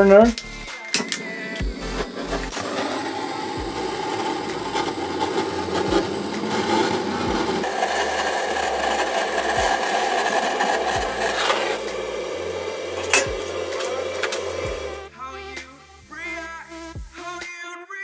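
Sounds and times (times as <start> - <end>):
boiler fan humming: 0.0 - 15.1
gas torch hissing: 0.5 - 17.3.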